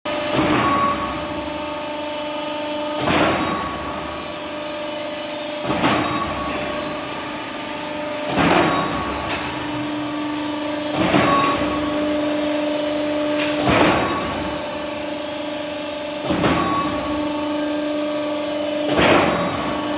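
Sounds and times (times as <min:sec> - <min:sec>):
concrete pump humming and surging: 0:00.1 - 0:19.9.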